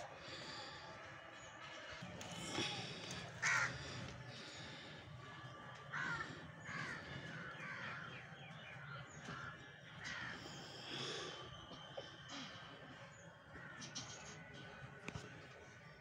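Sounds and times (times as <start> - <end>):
crows cawing: 1.6 - 15.3.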